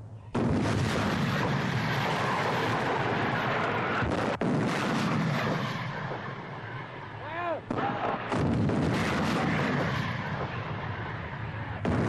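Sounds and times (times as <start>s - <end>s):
gun blast: 0.3s - 12.0s
heavy gunfire: 0.4s - 6.7s, 7.6s - 12.0s.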